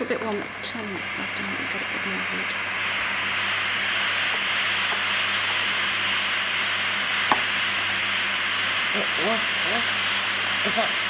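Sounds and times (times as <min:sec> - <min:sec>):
gas torch hissing: 0:00.0 - 0:11.0.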